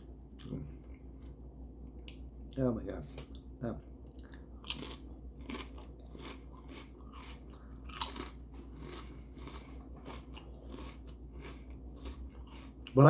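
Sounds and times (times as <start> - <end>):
person chewing food: 0.3 - 1.4, 2.0 - 13.0.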